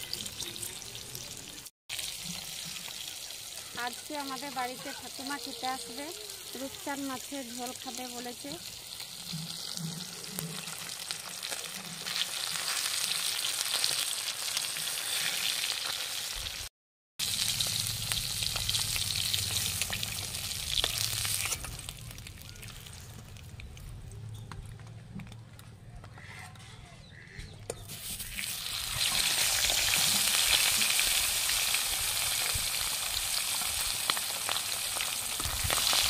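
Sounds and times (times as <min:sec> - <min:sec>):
fish frying in oil: 0:00.0 - 0:23.9, 0:27.9 - 0:36.0.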